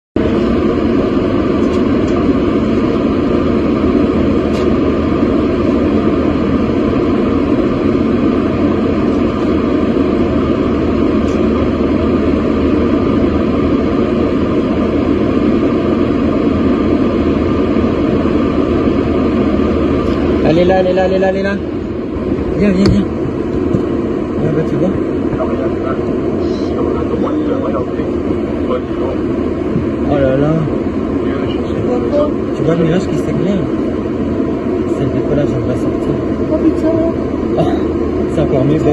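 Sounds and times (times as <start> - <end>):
airliner cabin noise: 0.2 - 38.9.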